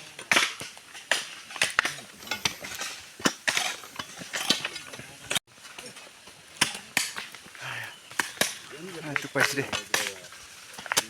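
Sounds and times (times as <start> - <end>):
hand tools clacking on stones: 0.1 - 11.0
tools scraping on gravel: 0.4 - 11.0.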